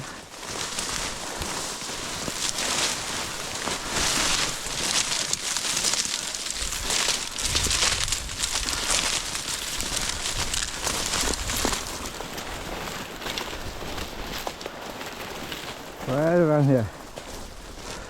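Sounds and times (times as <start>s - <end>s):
footsteps crunching through snow: 0.0s - 18.0s.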